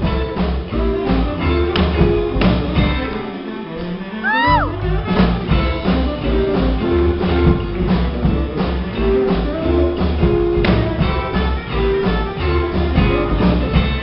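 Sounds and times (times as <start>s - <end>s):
electric guitar: 0.0s - 14.0s
live band playing upbeat music: 0.0s - 14.0s.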